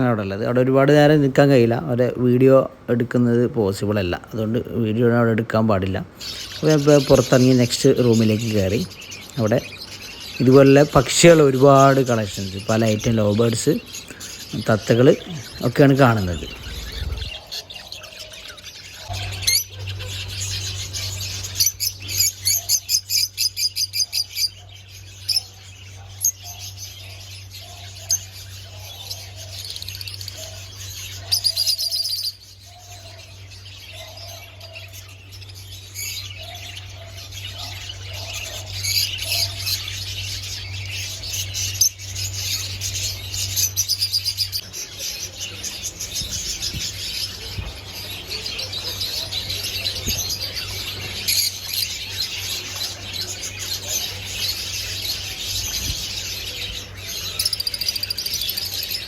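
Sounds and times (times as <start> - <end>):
parrots chirping and chattering: 0.0 - 59.0.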